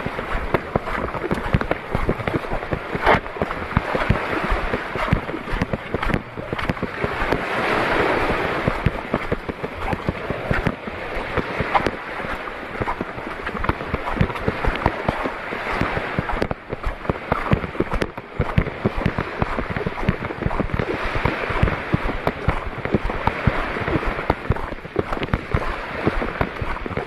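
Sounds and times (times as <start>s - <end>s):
rushing surf-like water: 0.0s - 27.0s
wind buffeting microphone: 0.0s - 27.0s.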